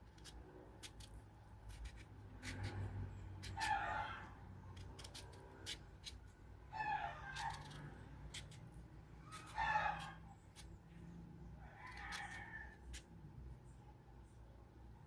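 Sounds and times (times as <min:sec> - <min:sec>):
knife cutting mango: 0:00.0 - 0:13.5.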